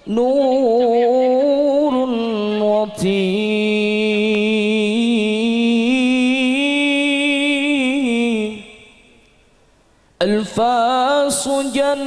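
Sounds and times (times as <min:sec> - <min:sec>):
young man singing long note: 0:00.0 - 0:09.2, 0:10.2 - 0:12.0.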